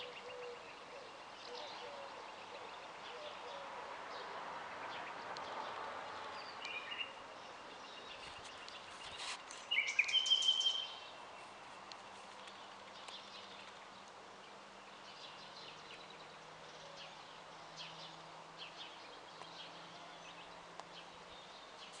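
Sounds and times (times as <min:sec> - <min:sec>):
nightingale singing: 0:00.0 - 0:04.3, 0:06.2 - 0:22.0.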